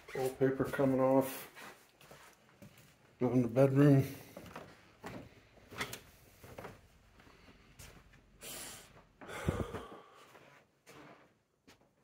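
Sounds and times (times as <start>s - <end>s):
soft footsteps on carpet: 0.0s - 9.2s, 9.8s - 12.0s.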